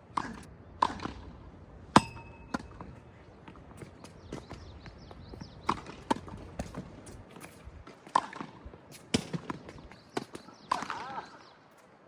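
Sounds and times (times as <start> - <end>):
tennis ball struck by rackets: 0.1 - 11.1.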